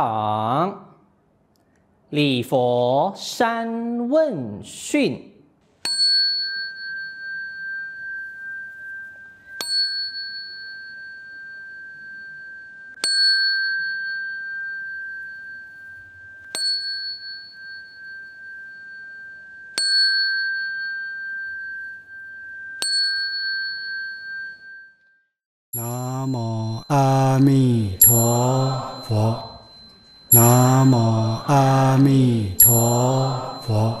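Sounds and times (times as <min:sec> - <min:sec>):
ritual bell ringing: 0:05.9 - 0:25.2, 0:25.8 - 0:34.0.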